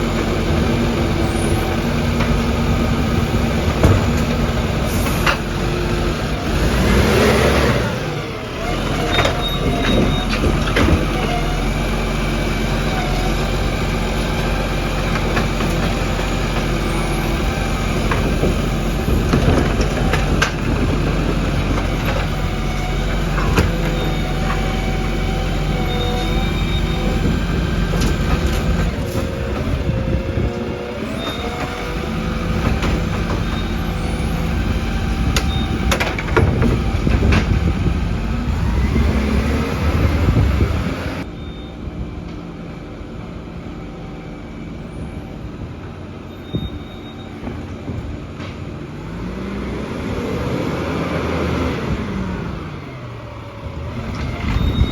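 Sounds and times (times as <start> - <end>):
garbage truck engine: 0.0 - 54.9.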